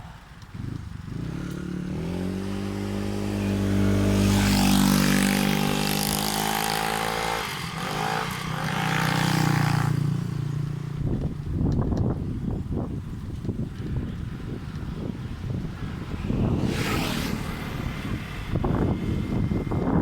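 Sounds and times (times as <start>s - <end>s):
vehicle engines passing: 0.0s - 20.0s.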